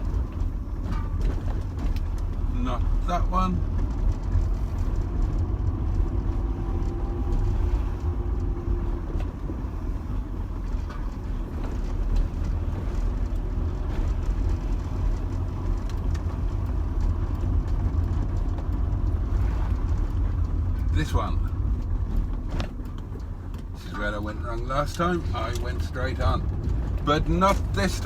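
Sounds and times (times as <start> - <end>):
road and engine rumble: 0.0 - 28.0.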